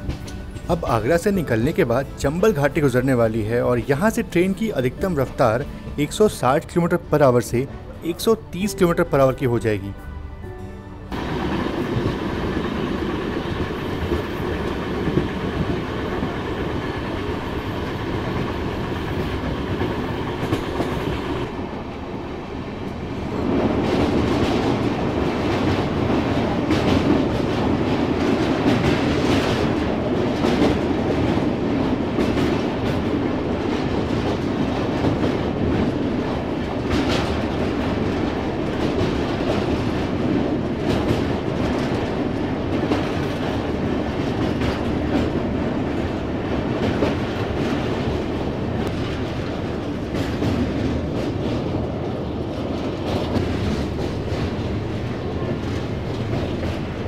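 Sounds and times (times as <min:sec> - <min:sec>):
train wheels rumbling on rails: 0:00.0 - 0:09.1, 0:11.1 - 0:57.0
train crossing steel bridge: 0:00.0 - 0:57.0.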